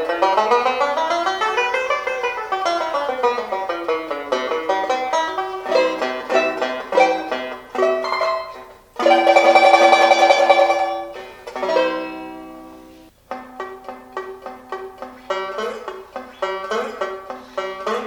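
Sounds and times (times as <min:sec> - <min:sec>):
banjo played with a pick: 0:00.0 - 0:18.0.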